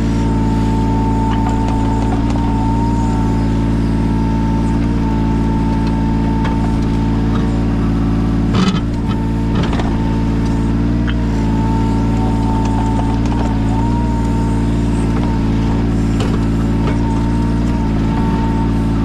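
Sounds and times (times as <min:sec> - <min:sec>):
diesel engine running: 0:00.0 - 0:19.0
high steady whine: 0:00.0 - 0:19.0.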